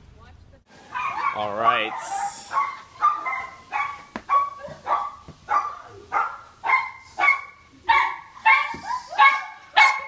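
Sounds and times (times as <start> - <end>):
dog barking: 0.9 - 10.0.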